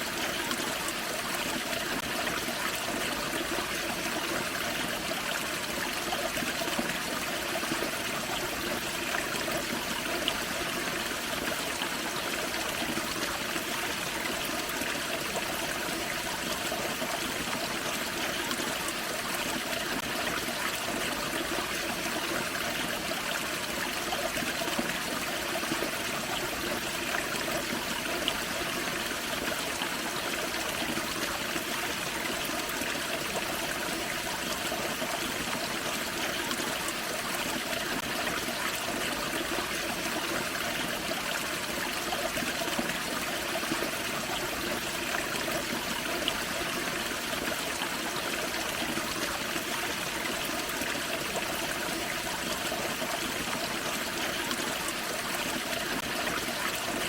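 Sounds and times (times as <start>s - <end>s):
waterfall over rocks: 0.0s - 57.0s.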